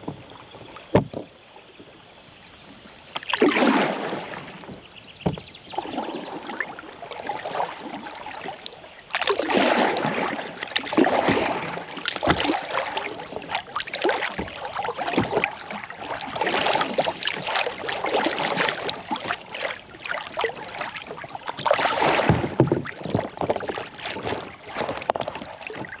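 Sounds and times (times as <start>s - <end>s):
paddle strokes splashing water: 0.0s - 26.0s.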